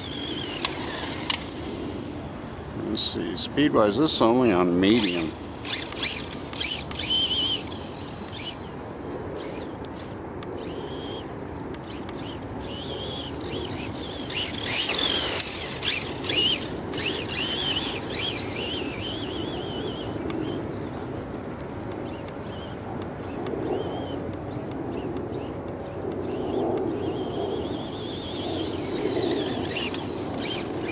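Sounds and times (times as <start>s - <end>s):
electric motor whining: 0.0s - 2.5s, 4.2s - 30.9s.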